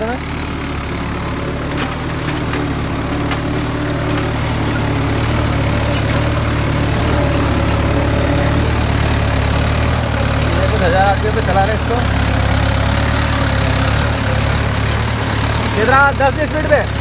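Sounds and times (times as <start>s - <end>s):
tractor diesel engine labouring: 0.0s - 17.0s.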